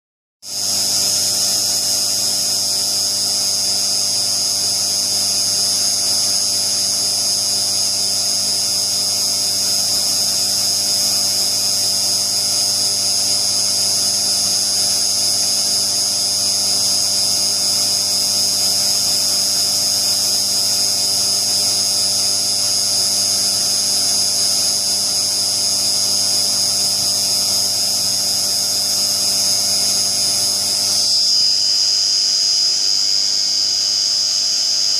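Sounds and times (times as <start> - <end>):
mill spindle whine: 0.5 - 34.9.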